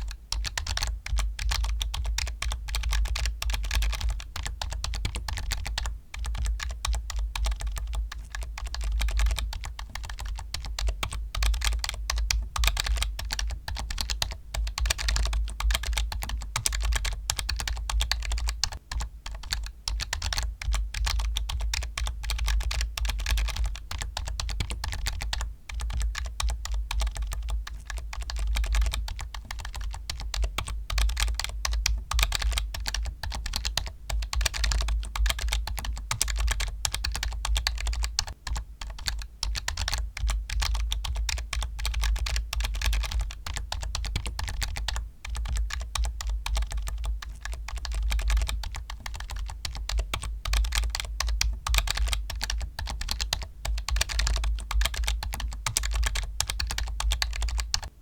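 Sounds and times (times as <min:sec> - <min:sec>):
computer keyboard typing: 0:00.0 - 0:57.9.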